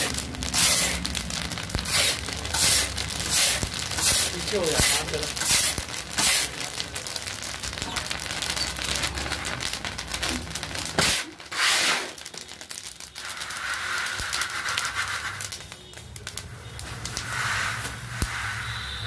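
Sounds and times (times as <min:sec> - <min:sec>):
chickpeas crackling in hot sand: 0:00.0 - 0:19.0.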